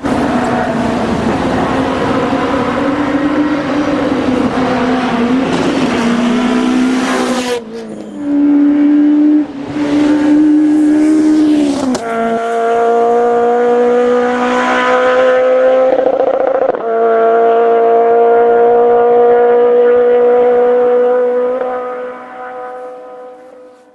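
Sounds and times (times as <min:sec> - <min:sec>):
rally car engine at high revs: 0:00.0 - 0:23.9.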